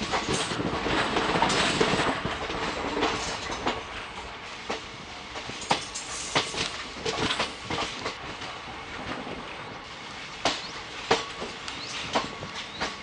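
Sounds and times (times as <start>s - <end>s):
train wheels clattering over rail joints: 0.0s - 9.5s, 10.3s - 13.0s
train rumble and rattle: 0.0s - 13.0s.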